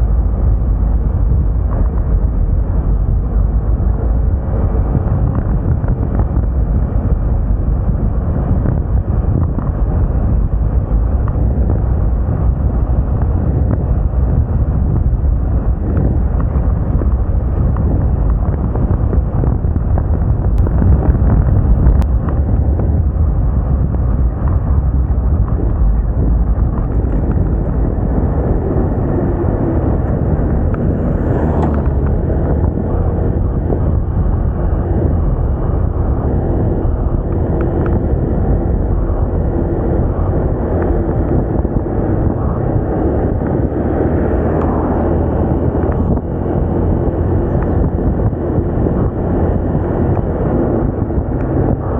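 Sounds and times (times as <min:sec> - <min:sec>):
scooter engine running: 0:00.0 - 0:51.9
wind rushing over microphone: 0:00.0 - 0:51.9.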